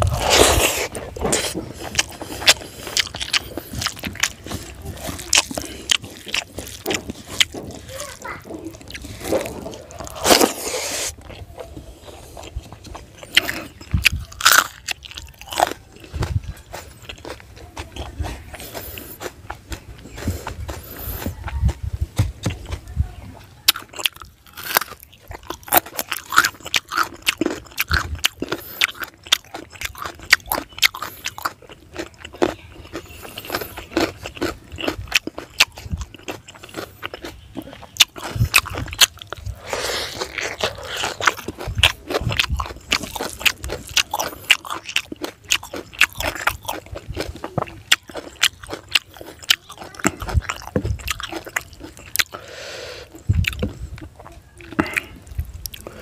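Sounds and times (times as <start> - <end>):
person chewing crunchy food: 0.0 - 22.9, 23.6 - 56.0.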